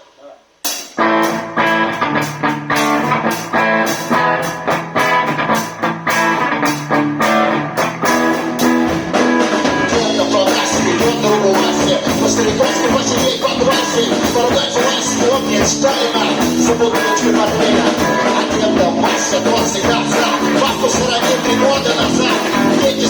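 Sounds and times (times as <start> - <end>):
drum kit steady beat: 0.6 - 23.0
guitar: 0.7 - 23.0.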